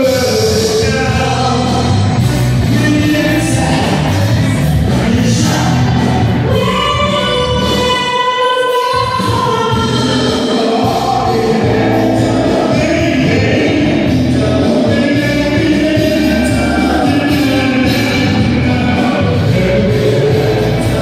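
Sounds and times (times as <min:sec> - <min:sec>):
pulsing bass: 0:00.0 - 0:08.0, 0:09.0 - 0:21.0
singing voices: 0:00.0 - 0:21.0.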